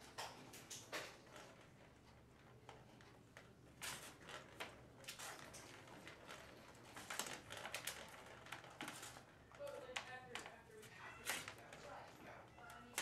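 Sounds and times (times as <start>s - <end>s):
ball rattling in plastic cat toy: 0.0s - 13.0s.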